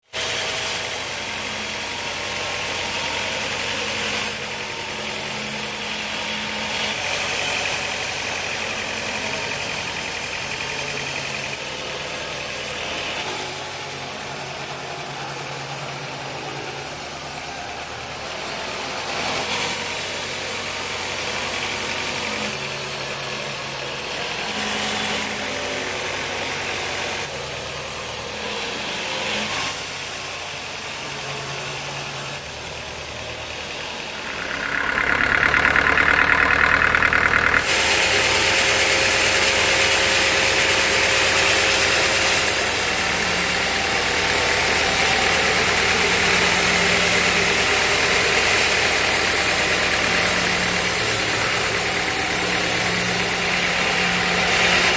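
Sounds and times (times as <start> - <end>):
sawmill machinery running: 0.2 - 54.9.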